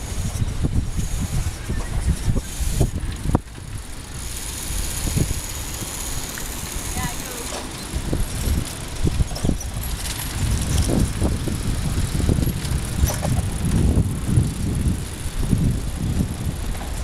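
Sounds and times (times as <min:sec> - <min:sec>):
bicycle rolling rumble: 0:00.0 - 0:17.0
wind buffeting microphone: 0:00.0 - 0:17.0.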